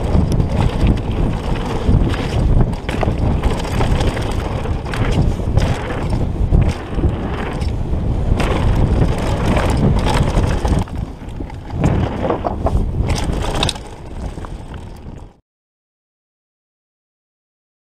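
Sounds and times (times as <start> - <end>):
bike rattling and knocking: 0.0 - 15.4
bike tyre noise on dirt: 0.0 - 15.4
wind buffeting microphone: 0.0 - 15.4.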